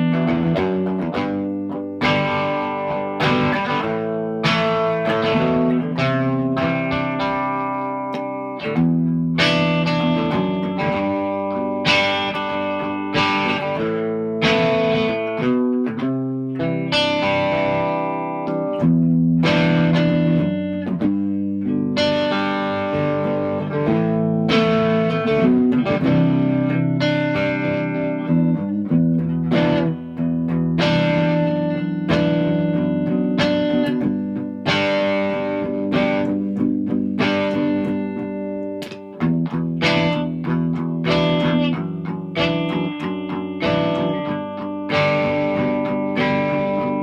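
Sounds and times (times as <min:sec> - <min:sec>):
electric guitar chords ringing: 0:00.0 - 0:47.0.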